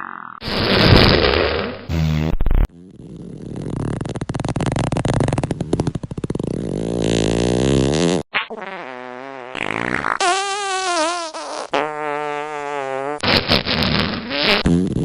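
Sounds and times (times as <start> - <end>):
buzzy fart sound effects: 0.0 - 15.0.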